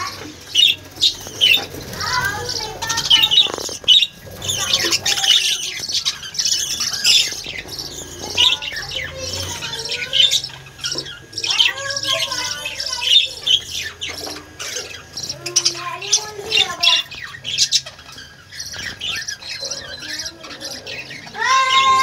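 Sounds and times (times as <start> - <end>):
budgerigars chattering: 0.0 - 22.0.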